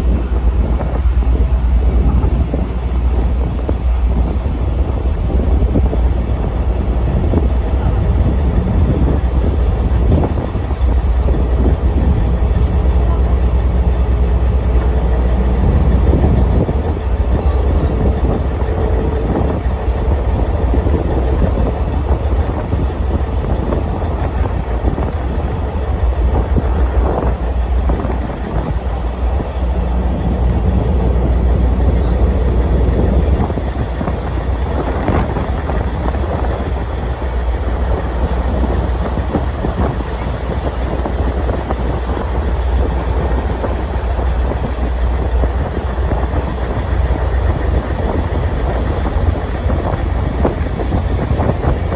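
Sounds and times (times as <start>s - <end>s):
boat engine droning: 0.0s - 51.9s.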